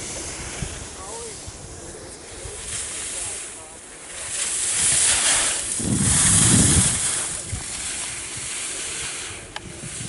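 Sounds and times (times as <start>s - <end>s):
wind buffeting microphone: 0.0s - 3.4s, 4.0s - 10.0s.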